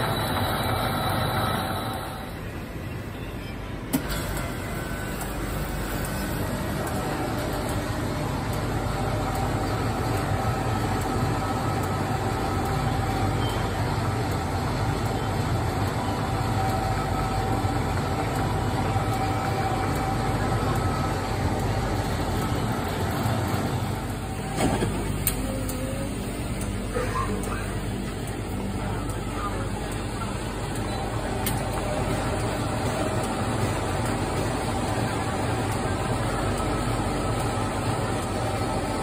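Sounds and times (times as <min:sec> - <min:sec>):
machine hum with faint whine: 0:00.0 - 0:39.0.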